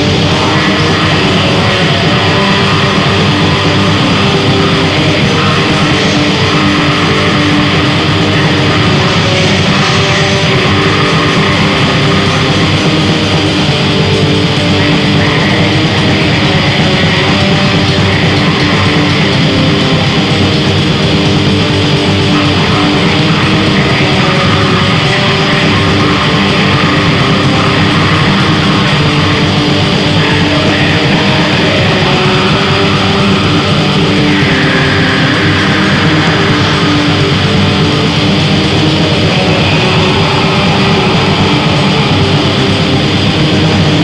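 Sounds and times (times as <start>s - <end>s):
heavily distorted electric guitar: 0.0s - 44.0s.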